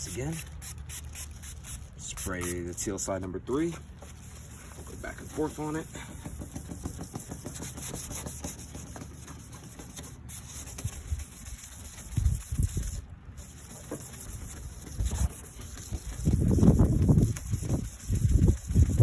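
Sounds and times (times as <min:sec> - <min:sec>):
sandpaper scrubbing plastic: 0:00.0 - 0:03.1, 0:04.0 - 0:19.0.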